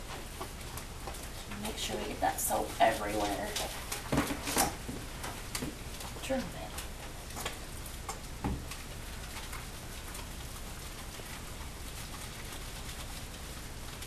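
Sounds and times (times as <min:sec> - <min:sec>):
wet squishing of lather in dog fur: 0:00.0 - 0:14.0.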